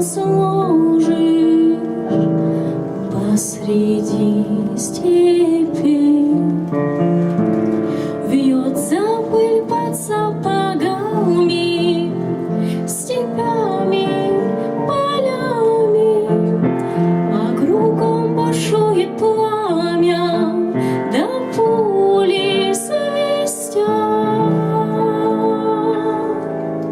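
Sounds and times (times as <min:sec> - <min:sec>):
woman singing: 0:00.0 - 0:02.2, 0:03.1 - 0:06.7, 0:08.2 - 0:26.6
held keyboard chords: 0:00.0 - 0:26.9.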